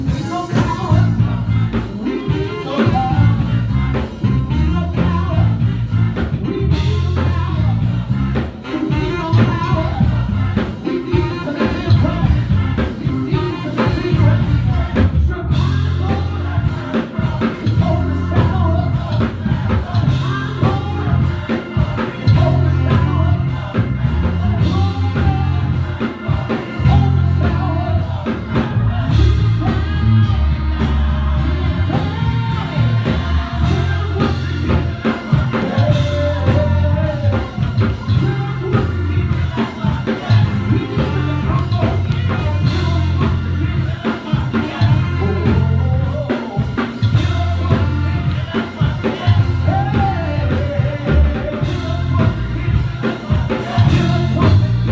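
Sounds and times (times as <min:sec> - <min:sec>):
singing: 0:00.0 - 0:54.9
worship band playing: 0:00.0 - 0:54.9.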